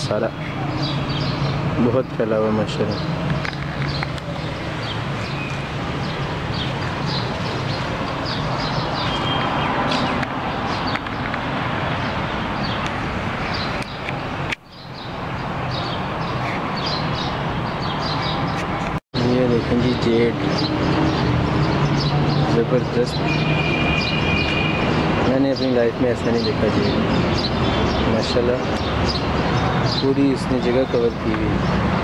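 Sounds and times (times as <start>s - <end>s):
small birds chirping: 0.0s - 32.0s
traffic noise: 0.0s - 32.0s.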